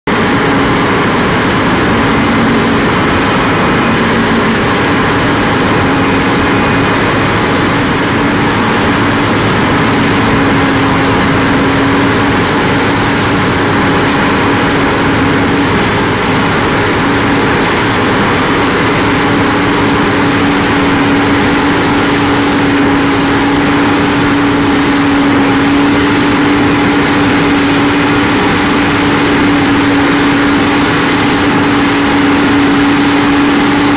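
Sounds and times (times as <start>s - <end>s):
heavy diesel engines running: 0.0s - 33.9s
faint high whine: 0.1s - 33.9s.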